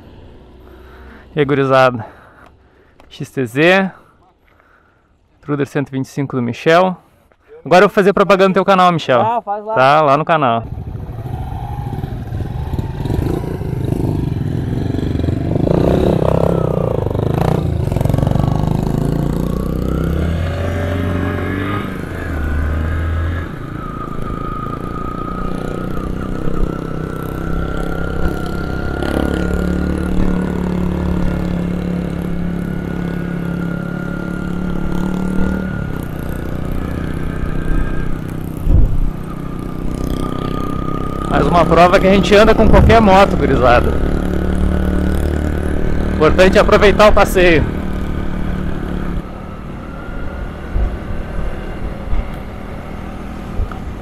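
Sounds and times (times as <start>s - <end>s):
motorcycle engine running: 10.6s - 54.0s.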